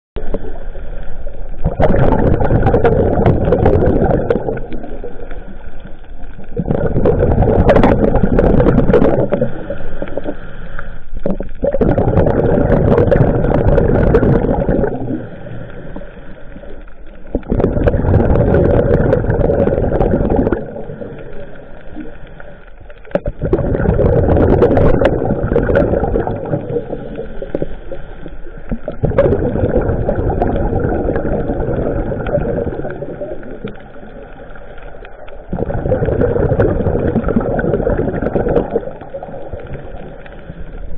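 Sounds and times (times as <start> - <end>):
underwater bubbles rumbling: 0.2 - 40.9.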